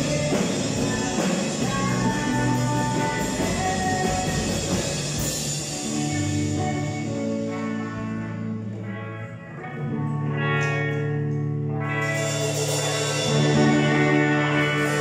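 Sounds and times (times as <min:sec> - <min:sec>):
rock band playing sustained chords: 0:00.0 - 0:15.0.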